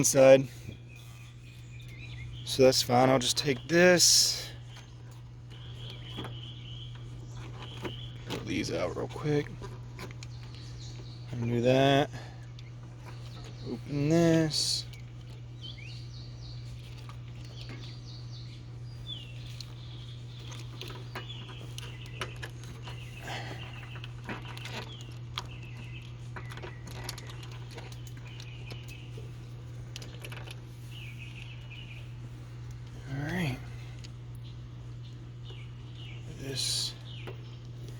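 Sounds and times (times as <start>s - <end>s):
small birds chirping: 0.0s - 37.9s
steady low hum: 0.0s - 37.9s.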